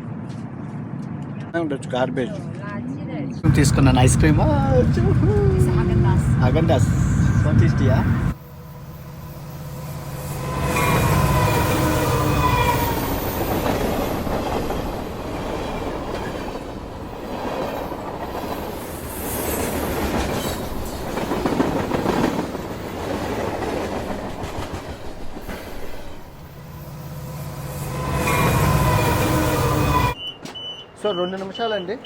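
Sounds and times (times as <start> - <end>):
train wheels on track: 3.5 - 32.0.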